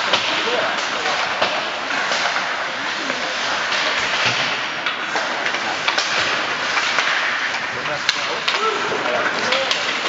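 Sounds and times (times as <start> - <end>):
hockey sticks and puck clacking: 0.0 - 10.0
skate blades scraping ice: 0.0 - 10.0.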